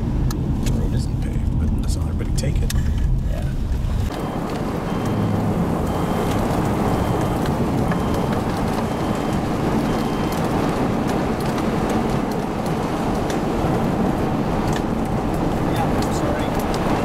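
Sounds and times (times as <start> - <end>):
rushing wind: 0.0 - 17.0
raindrops ticking: 0.2 - 3.3, 4.1 - 17.0
heavy rain: 1.8 - 17.0.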